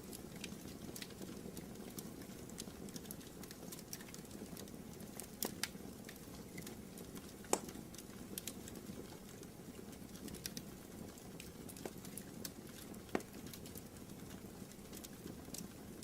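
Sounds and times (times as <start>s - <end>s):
wood fire crackling: 0.0s - 16.0s
fire popping: 0.1s - 16.0s.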